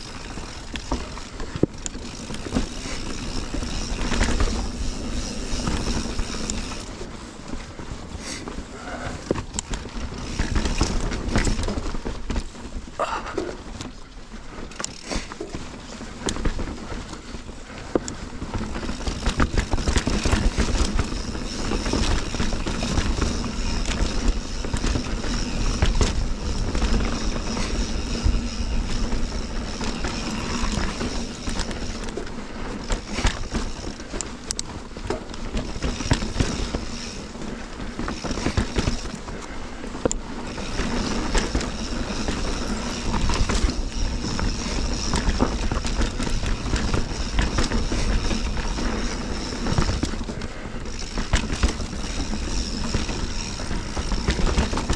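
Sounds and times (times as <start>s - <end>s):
bike rattling and knocking: 0.0s - 54.9s
bike tyres on rocky trail: 0.0s - 54.9s.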